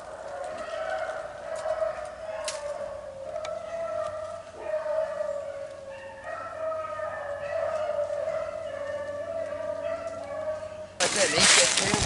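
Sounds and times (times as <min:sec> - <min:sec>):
dogs baying in chorus: 0:00.0 - 0:11.9.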